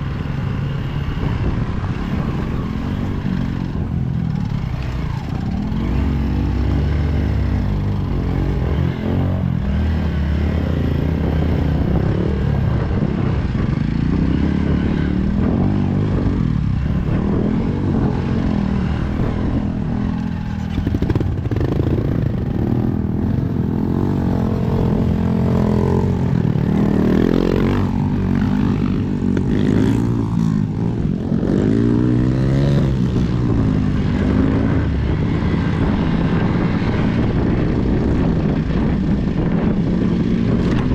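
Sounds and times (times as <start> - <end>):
vehicle engine revving: 1.1 - 40.9.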